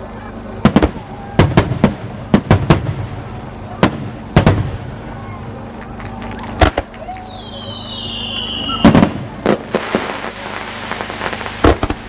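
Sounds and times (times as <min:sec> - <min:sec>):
steady low hum: 0:00.0 - 0:12.0
fireworks bursting with sharp bangs: 0:00.6 - 0:12.0.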